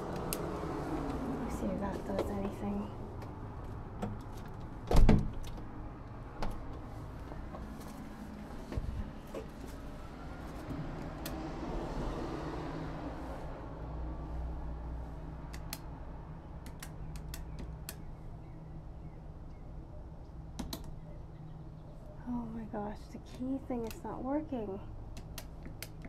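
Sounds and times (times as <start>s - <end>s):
low street rumble: 0.0s - 26.0s.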